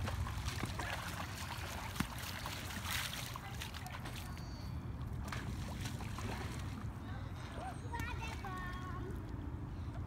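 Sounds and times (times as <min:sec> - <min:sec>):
shallow water splashing: 0:00.0 - 0:04.4, 0:05.2 - 0:08.9.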